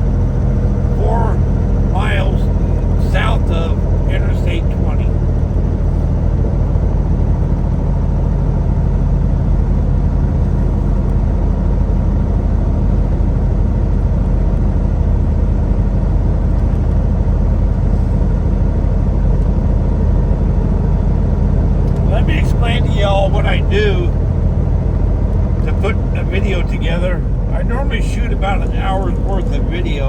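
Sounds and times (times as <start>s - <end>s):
diesel truck engine drone: 0.0s - 30.0s
road noise: 0.0s - 30.0s.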